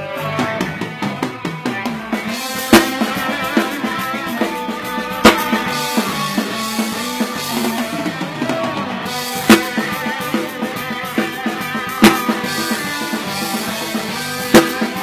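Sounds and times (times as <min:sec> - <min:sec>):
drum and cymbal hits: 0:00.0 - 0:15.0
live rock band playing: 0:00.0 - 0:15.0.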